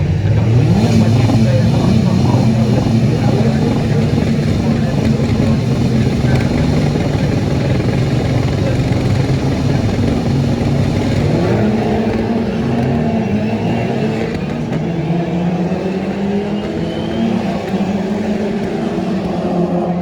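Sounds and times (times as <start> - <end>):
race car engines running: 0.0 - 20.0.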